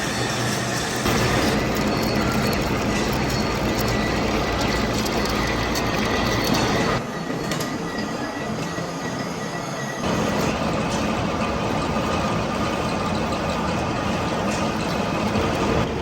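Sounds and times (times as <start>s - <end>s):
workshop machinery clattering: 0.0s - 8.8s, 10.0s - 16.0s.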